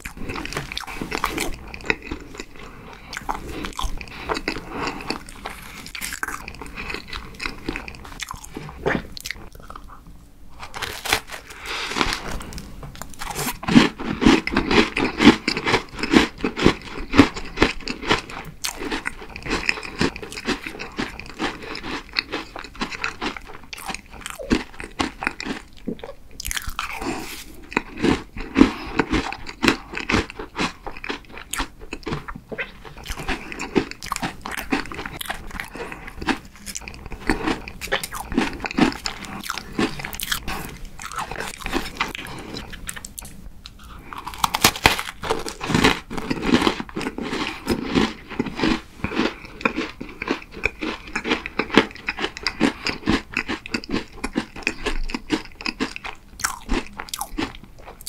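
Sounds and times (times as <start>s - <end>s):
cookie crunching being chewed: 0.0s - 10.0s, 10.6s - 58.0s.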